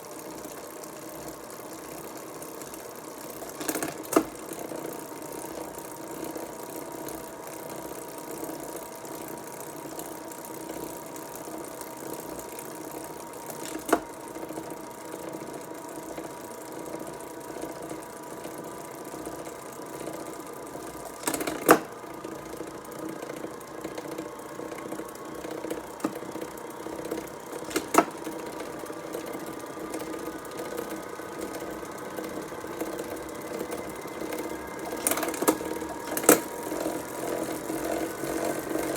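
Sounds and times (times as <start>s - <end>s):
bicycle chain and gears whirring: 0.0s - 38.9s
sharp drivetrain clicks: 0.0s - 38.9s.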